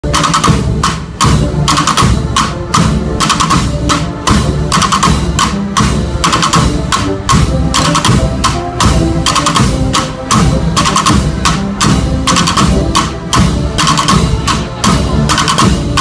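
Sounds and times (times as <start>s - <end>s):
snare drum rolls: 0.0s - 16.0s.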